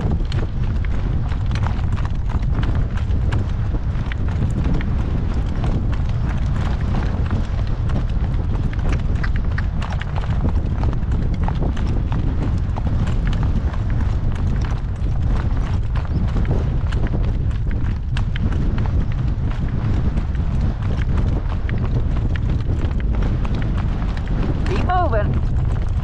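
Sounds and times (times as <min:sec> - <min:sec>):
horse hooves clip-clopping: 0:00.0 - 0:26.0
wind buffeting the microphone: 0:00.0 - 0:26.0.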